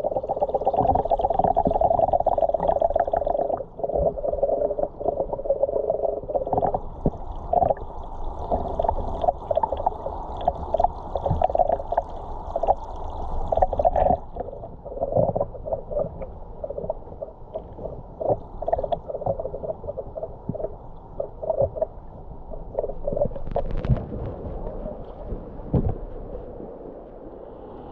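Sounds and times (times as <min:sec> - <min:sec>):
muffled river water gurgling: 0:00.0 - 0:27.9.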